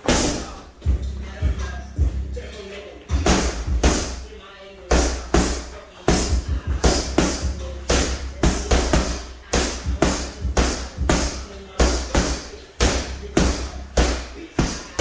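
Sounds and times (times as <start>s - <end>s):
punches thudding on heavy bag: 0.0s - 1.0s, 3.1s - 4.3s, 4.9s - 15.0s.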